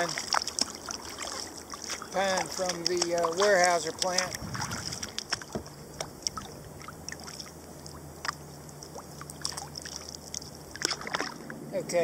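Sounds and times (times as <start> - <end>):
paddle dipping in water: 0.0 - 11.6.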